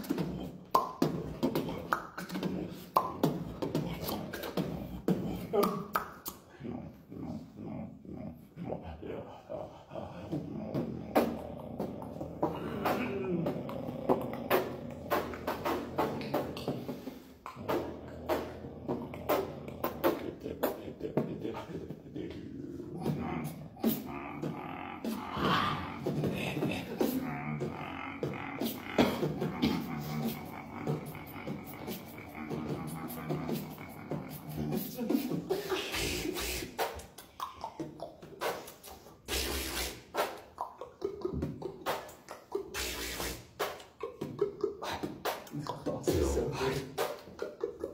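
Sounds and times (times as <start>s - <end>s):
beatboxing: 0.0s - 47.9s.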